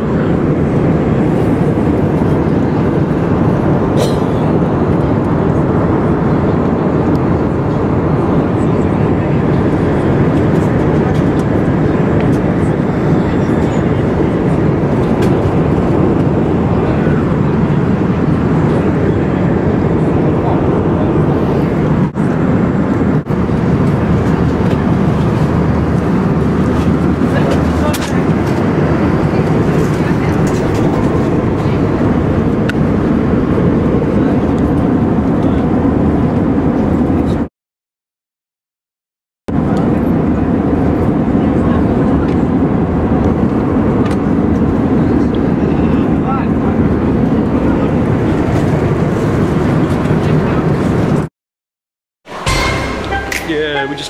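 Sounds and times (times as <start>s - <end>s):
airliner cabin rumble: 0.0s - 37.5s, 39.5s - 51.3s.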